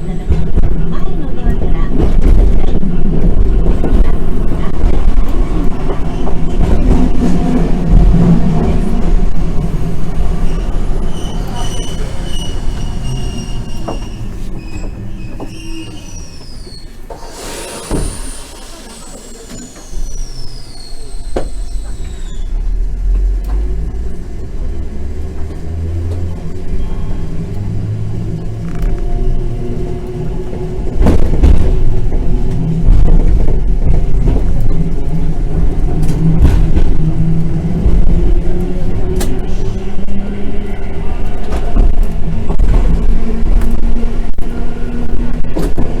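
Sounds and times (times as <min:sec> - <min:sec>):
tram wheels and motor rumbling: 0:00.0 - 0:46.0.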